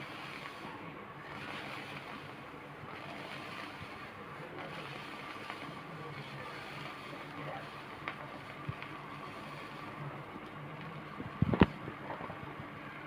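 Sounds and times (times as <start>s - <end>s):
water sizzling on hot griddle: 0.0s - 12.6s.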